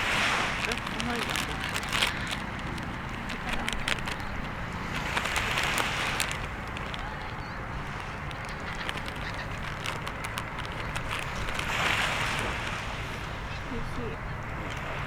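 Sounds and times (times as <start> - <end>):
bonfire crackling and popping: 0.0 - 13.3
low rumble of wind: 0.0 - 15.0.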